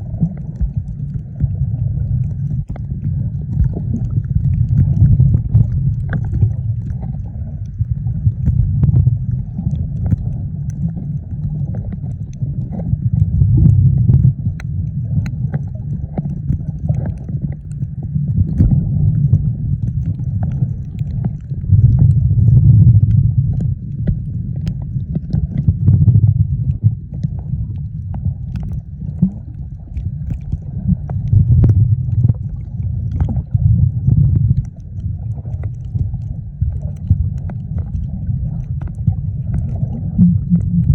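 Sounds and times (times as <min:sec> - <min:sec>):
muffled underwater water rumble: 0:00.0 - 0:40.9.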